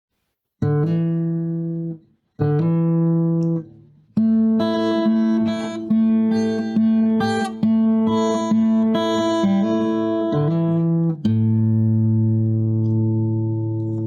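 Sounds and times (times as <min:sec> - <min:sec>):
guitar chords strummed: 0:00.6 - 0:14.0.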